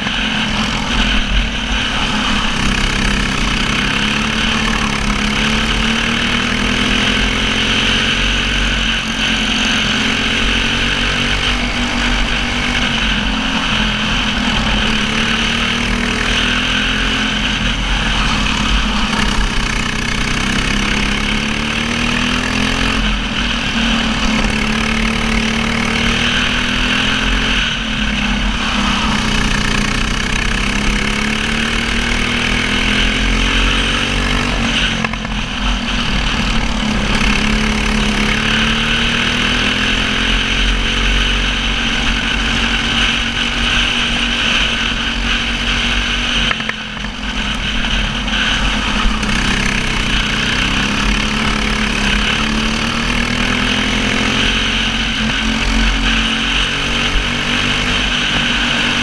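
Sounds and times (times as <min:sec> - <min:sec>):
racing kart engine: 0:00.0 - 0:59.0.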